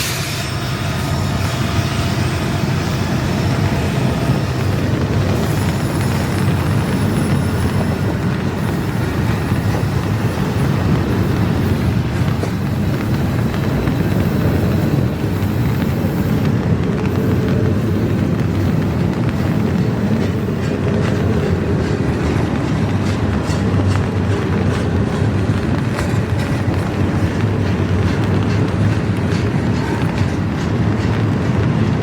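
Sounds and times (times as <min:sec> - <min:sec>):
freight train wheels rumbling: 0:00.0 - 0:32.0
wheels clicking over rail joints: 0:01.3 - 0:32.0.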